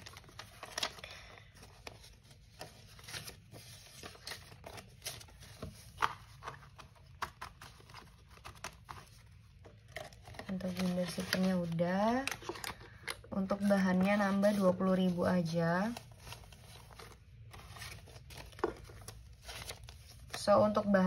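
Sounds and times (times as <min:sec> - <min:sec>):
paper banknotes rustling: 0:00.0 - 0:21.0.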